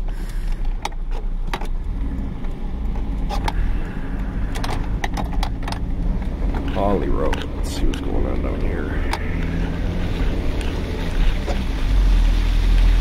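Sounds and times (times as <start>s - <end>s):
sharp clicks and knocks: 0.0s - 11.7s
car engine and tyres rumbling: 0.0s - 13.0s.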